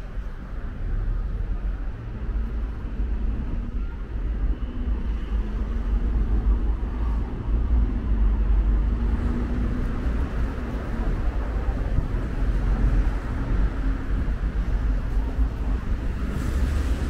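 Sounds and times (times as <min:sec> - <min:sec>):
faint engine hum: 0:00.0 - 0:17.0
road traffic rumble: 0:00.0 - 0:17.0.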